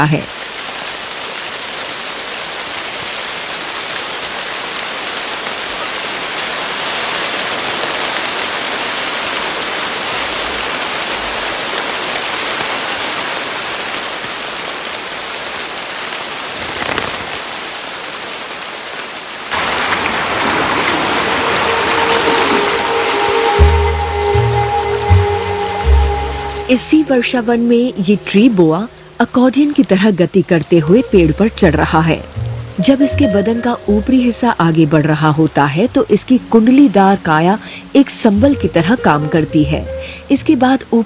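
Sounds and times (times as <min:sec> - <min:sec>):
rain falling: 0:00.0 - 0:41.0
rushing water: 0:00.0 - 0:41.0.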